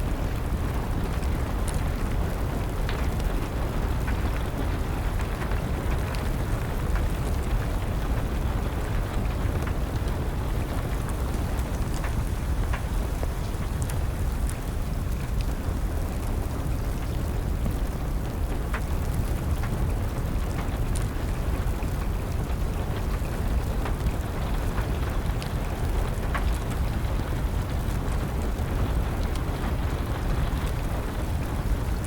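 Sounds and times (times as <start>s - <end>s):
crackling wood fire: 0.0s - 32.0s
steady rain: 0.0s - 32.0s.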